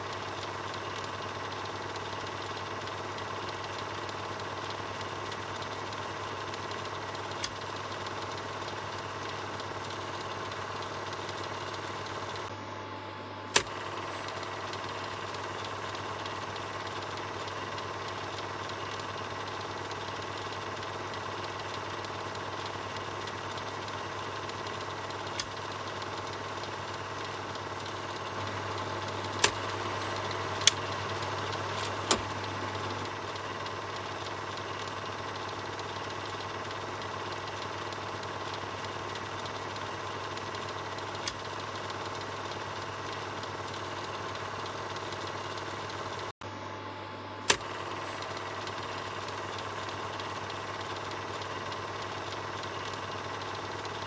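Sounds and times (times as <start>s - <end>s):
film projector whirring: 0.0s - 54.0s
sharp clicks: 0.1s - 12.5s, 13.5s - 46.3s, 47.4s - 54.0s.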